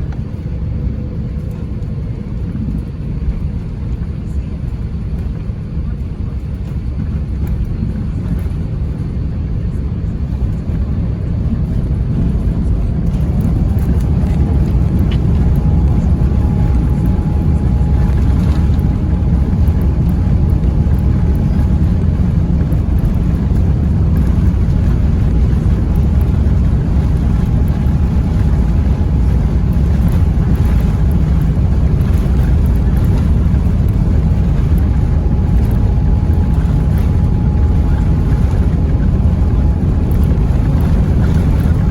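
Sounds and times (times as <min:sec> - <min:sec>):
faint steady whine: 0:00.0 - 0:41.9
jet engine rumble: 0:00.0 - 0:41.9.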